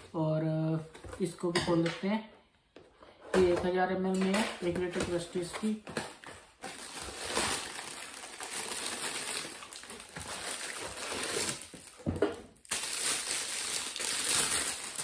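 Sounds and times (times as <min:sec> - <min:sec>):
cardboard and plastic rustling: 0:02.8 - 0:15.0.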